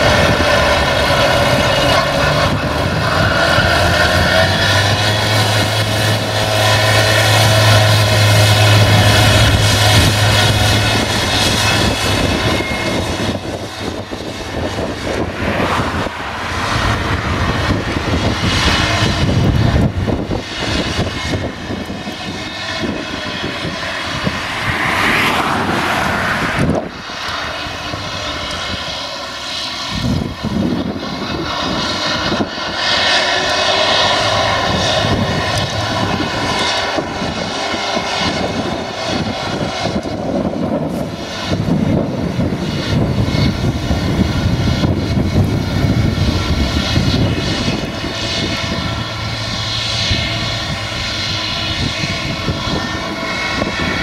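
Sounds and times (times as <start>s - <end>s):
mower high mechanical whine: 0.0s - 54.0s
tractor engine droning: 0.0s - 54.0s.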